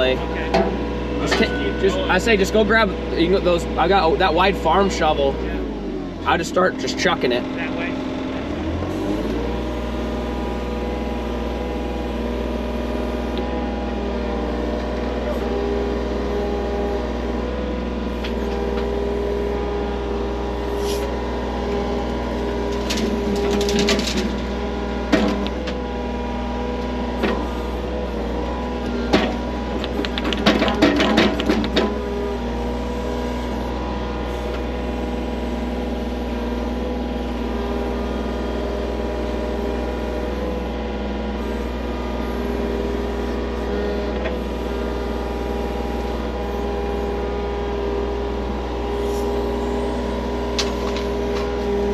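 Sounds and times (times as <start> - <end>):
skid loader engine running: 0.0 - 51.9.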